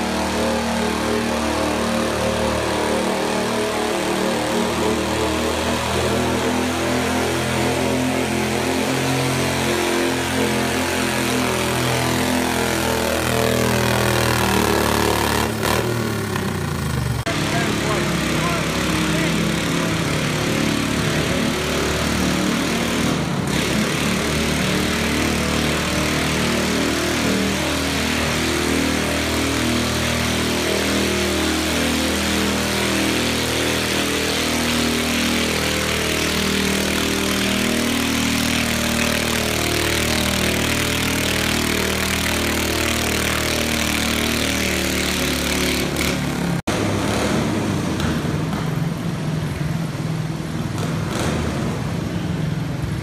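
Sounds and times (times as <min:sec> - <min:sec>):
garden tractor engine under load: 0:00.0 - 0:48.9.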